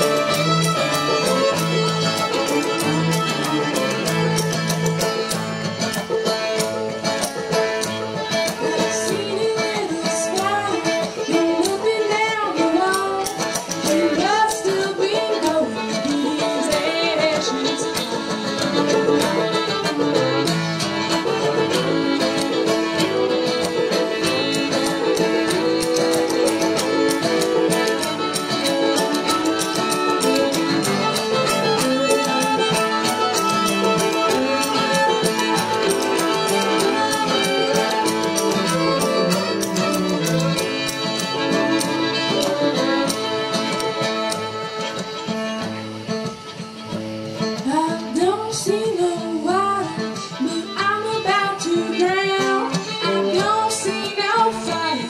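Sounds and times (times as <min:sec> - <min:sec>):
fiddles: 0:00.0 - 0:55.0
string band playing: 0:00.0 - 0:55.0.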